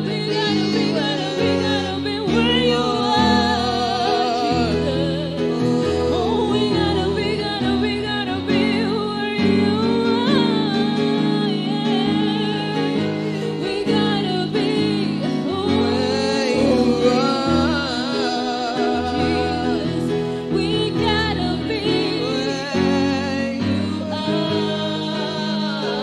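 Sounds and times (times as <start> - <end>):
woman singing gospel song: 0.0 - 26.0.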